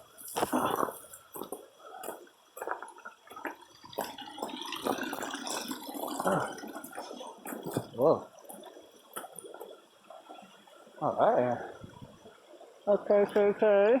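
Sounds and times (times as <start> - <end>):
stream water splashing over rocks: 0.0 - 11.5.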